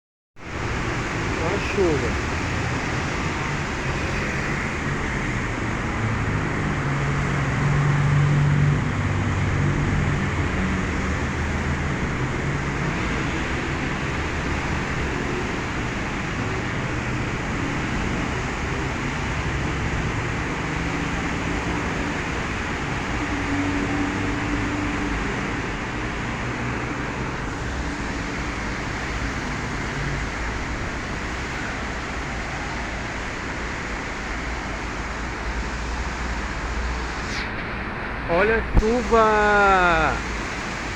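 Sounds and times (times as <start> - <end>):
heavy rain hissing: 0.4 - 37.6, 38.8 - 40.9
traffic on wet street: 0.4 - 40.9.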